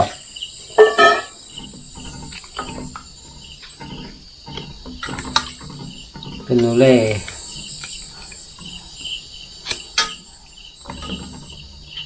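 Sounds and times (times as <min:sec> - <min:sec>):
crickets chirping: 0:00.0 - 0:12.0
metal pot clanking: 0:00.0 - 0:12.0.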